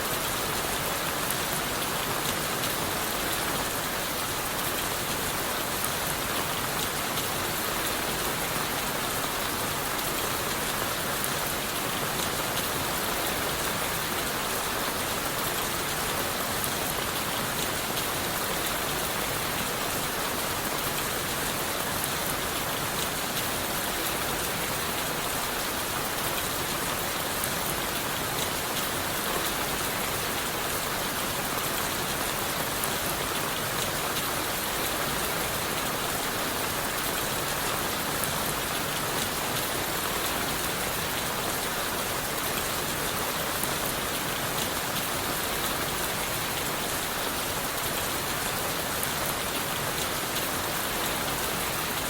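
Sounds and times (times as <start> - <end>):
rain falling on leaves: 0.0 - 52.0.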